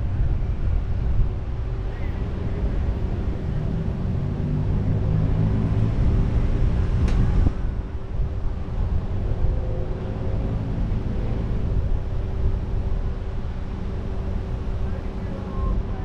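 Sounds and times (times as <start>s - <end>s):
surrounding traffic: 0.0s - 16.0s
vehicle running: 0.0s - 16.0s
wind buffeting microphone: 0.0s - 16.0s.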